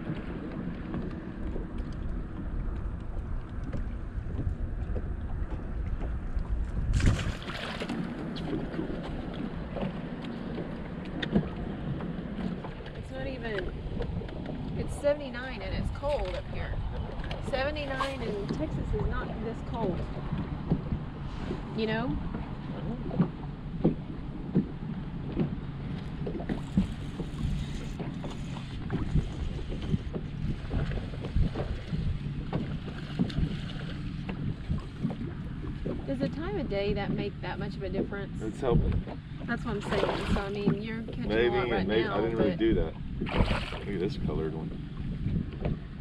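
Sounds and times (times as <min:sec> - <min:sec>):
waves slapping boat hull: 0:00.0 - 0:46.0
wind buffeting microphone: 0:00.0 - 0:46.0.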